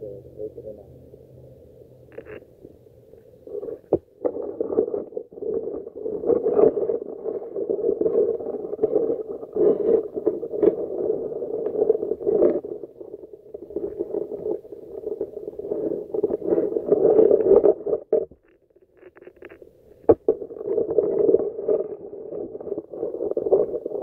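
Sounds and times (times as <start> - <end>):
crackles: 1.8 - 24.0
water swishing underwater: 2.1 - 24.0.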